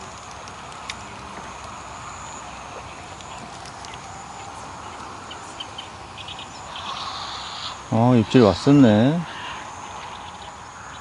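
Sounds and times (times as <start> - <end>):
insect trill: 0.0 - 11.0
soft background hiss: 0.0 - 11.0.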